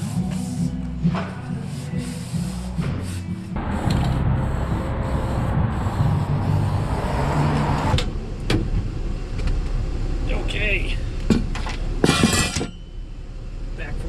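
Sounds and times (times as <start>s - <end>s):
vehicle engine and road noise: 0.1s - 14.0s.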